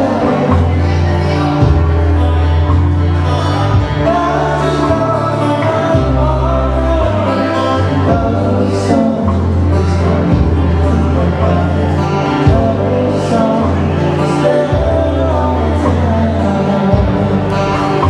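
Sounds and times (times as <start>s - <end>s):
band playing: 0.0s - 18.0s
bass line: 0.0s - 18.0s
person singing: 0.0s - 18.0s.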